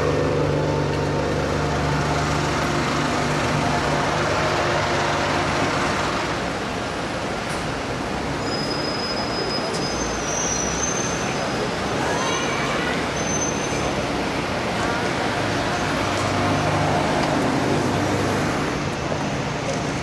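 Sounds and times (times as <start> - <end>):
city traffic noise: 0.0 - 20.0.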